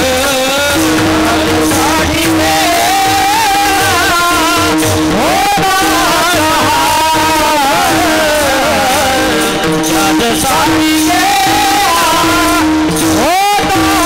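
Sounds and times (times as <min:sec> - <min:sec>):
hand cymbals clashing: 0:00.0 - 0:14.0
men singing together: 0:00.0 - 0:14.0
held drone note: 0:00.7 - 0:14.0.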